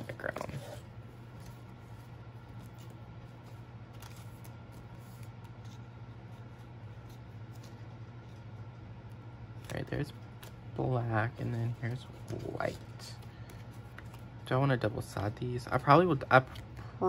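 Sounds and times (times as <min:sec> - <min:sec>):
plastic sleeves rustling: 0:00.0 - 0:15.1
air conditioner hum: 0:00.0 - 0:17.0.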